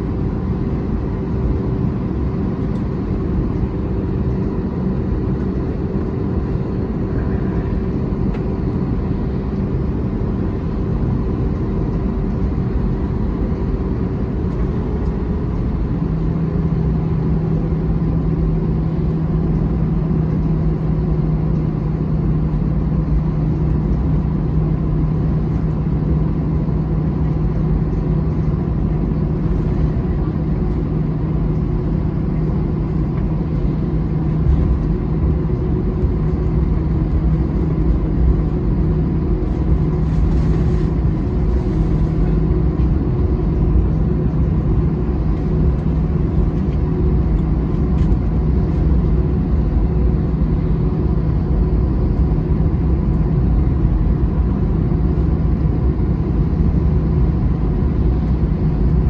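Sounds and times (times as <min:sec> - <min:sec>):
aircraft engine rumble: 0:00.0 - 0:59.0
constant cabin hum: 0:00.0 - 0:59.0.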